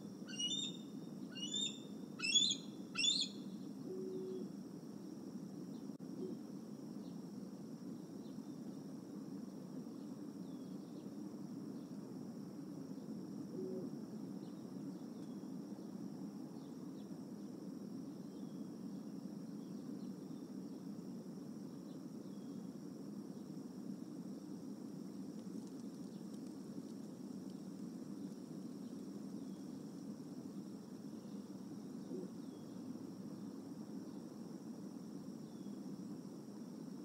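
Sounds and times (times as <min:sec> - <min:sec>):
insect trill: 0:00.0 - 0:37.0
low even hum: 0:00.0 - 0:37.0.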